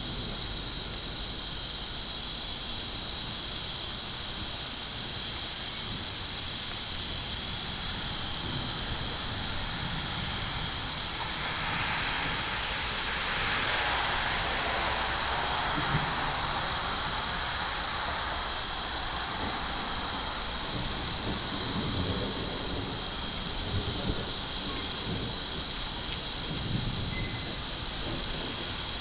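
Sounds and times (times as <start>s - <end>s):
thunderstorm rushing hiss: 0.0s - 29.0s.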